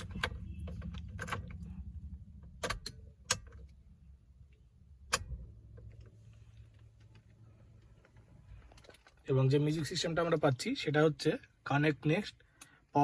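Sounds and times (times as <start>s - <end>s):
low hum inside car cabin: 0.0s - 13.0s.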